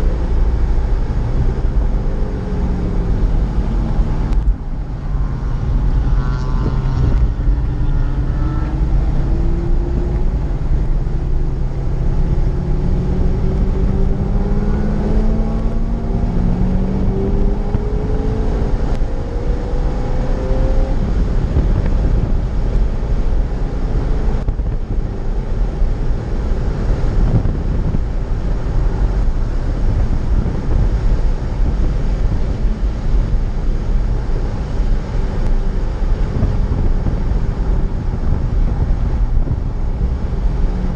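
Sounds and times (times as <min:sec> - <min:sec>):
car engine accelerating: 0:00.0 - 0:40.9
road noise: 0:00.0 - 0:40.9
wind roar: 0:00.0 - 0:40.9.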